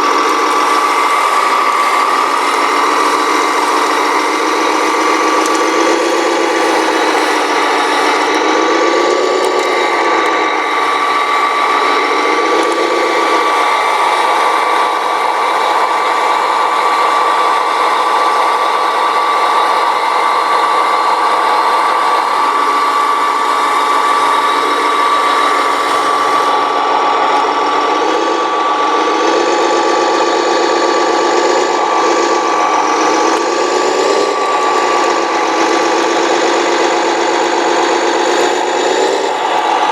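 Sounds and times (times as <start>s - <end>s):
electric motor high whine: 0.0s - 39.9s
gear whir: 0.0s - 39.9s.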